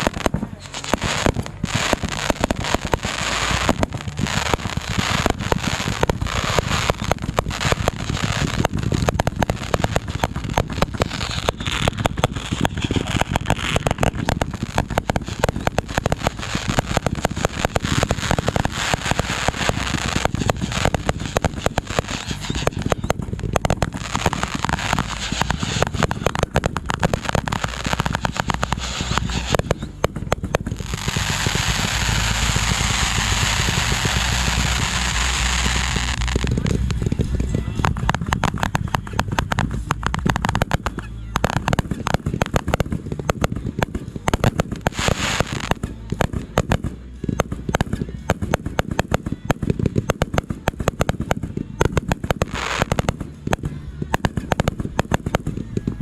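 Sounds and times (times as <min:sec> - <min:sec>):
fireworks cracking and popping: 0:00.0 - 0:56.0.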